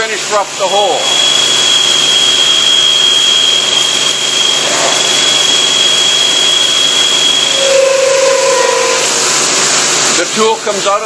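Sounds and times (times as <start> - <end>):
drilling machine rushing noise: 0.0 - 11.0
high drill whine: 0.4 - 10.3.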